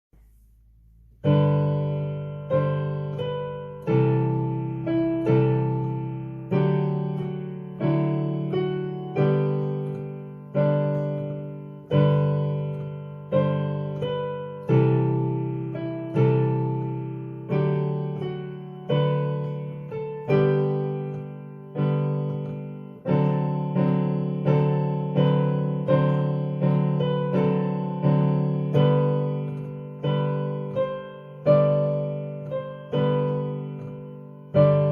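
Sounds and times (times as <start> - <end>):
piano playing hymn chords: 1.0 - 34.9.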